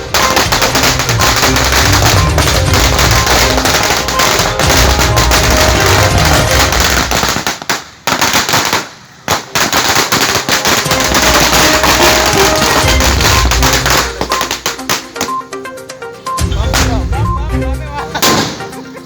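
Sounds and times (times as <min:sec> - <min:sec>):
music playing: 0:00.0 - 0:07.4, 0:10.1 - 0:19.0
firecrackers crackling: 0:00.0 - 0:15.7, 0:16.4 - 0:19.0.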